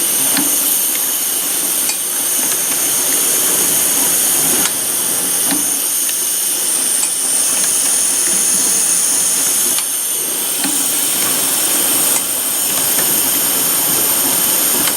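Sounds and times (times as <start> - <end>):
welding machine hiss and whine: 0.0 - 14.9.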